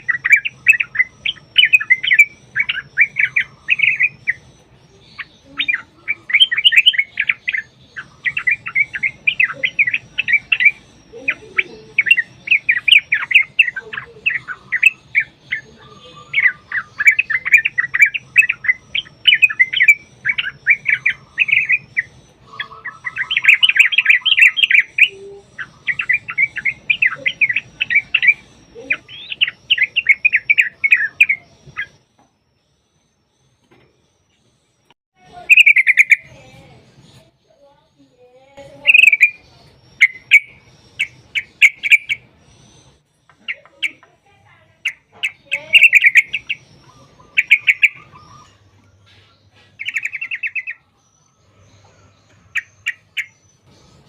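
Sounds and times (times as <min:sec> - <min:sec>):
bird singing chattering runs: 0:00.0 - 0:54.0.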